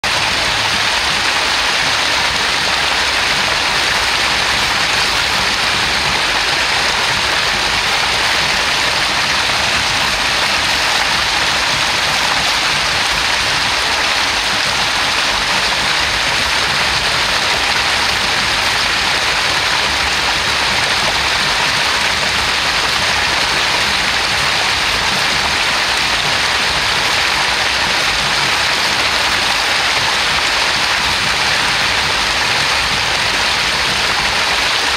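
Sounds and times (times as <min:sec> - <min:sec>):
water splashing over rocks: 0:00.0 - 0:34.9.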